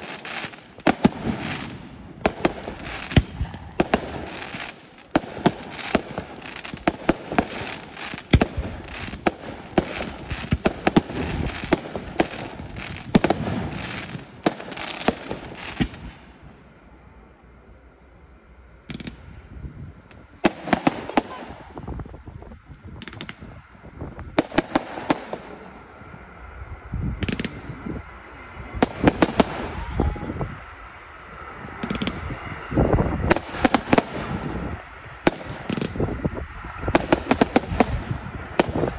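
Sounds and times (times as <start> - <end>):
fireworks bursting and crackling: 0.0 - 16.8, 18.8 - 38.9.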